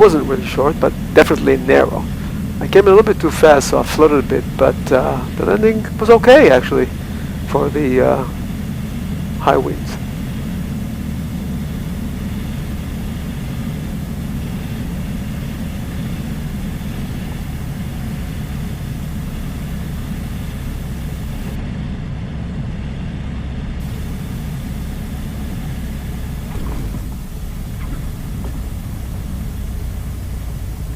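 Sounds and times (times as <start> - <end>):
aircraft engine and propeller drone: 0.0 - 30.9.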